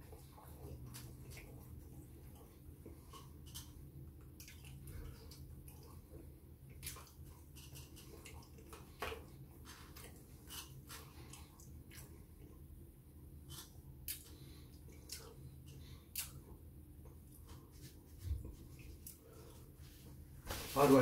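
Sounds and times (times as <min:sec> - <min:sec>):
wet chewing and lip-smacking: 0:00.0 - 0:12.8, 0:13.4 - 0:17.7.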